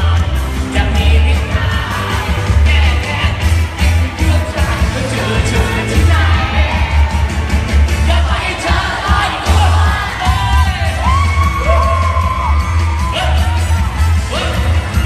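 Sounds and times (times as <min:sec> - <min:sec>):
man singing: 0:00.0 - 0:07.3, 0:07.9 - 0:15.0
heavy pulsing bass beat: 0:00.0 - 0:15.0.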